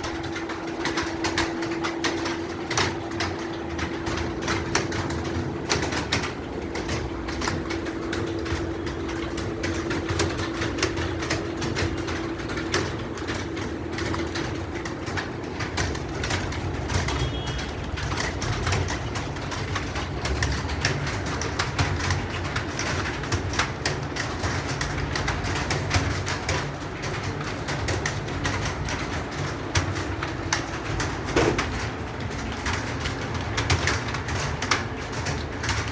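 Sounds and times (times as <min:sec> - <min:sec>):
keyboard typing: 0:00.0 - 0:35.9.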